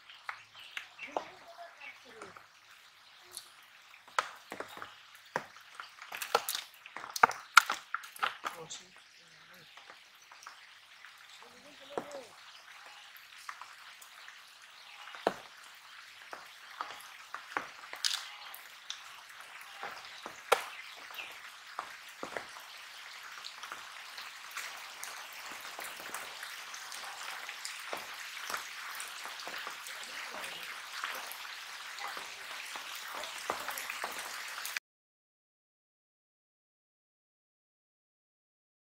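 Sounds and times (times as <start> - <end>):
water dripping: 0.0 - 34.8.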